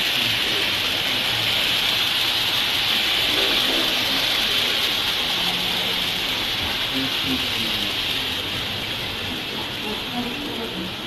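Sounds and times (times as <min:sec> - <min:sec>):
train running noise inside carriage: 0:00.0 - 0:11.0.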